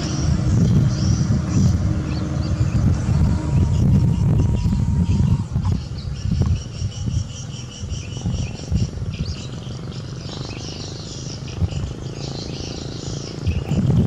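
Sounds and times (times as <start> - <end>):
insects chirping: 0.0 - 14.0
low engine rumble: 0.0 - 14.0.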